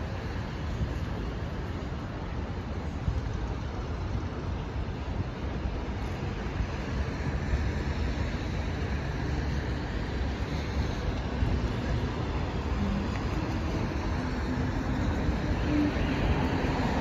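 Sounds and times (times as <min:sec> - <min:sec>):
traffic rumble: 0:00.0 - 0:17.0
tyres hissing on wet road: 0:00.0 - 0:17.0.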